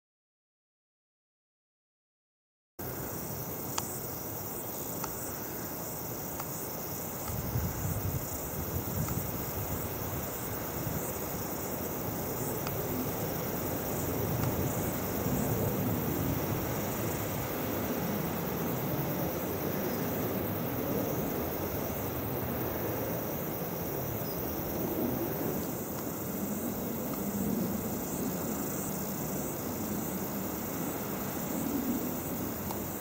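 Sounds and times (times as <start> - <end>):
insect chirping: 2.8 - 33.0.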